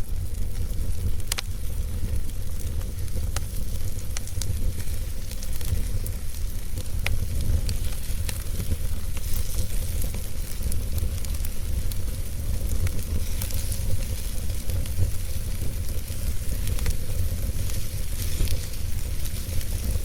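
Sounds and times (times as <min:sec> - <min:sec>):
steady low rumble: 0:00.0 - 0:20.0
wood fire crackling: 0:00.0 - 0:20.0.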